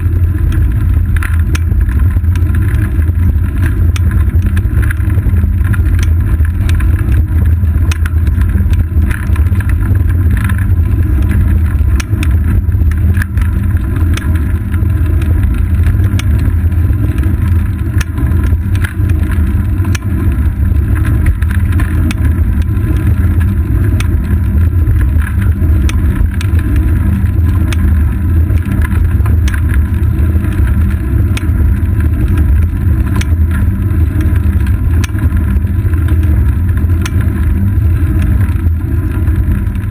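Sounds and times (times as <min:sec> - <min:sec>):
bike rolling on asphalt: 0:00.0 - 0:39.9
small clicks and rattles: 0:00.0 - 0:39.9.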